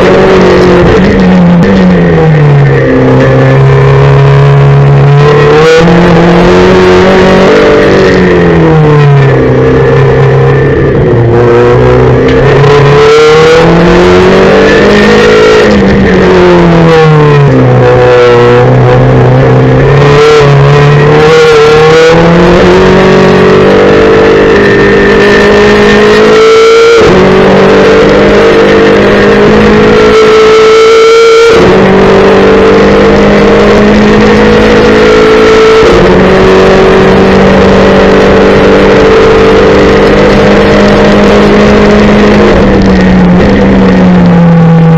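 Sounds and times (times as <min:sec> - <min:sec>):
race car engine at full throttle: 0:00.0 - 0:44.9.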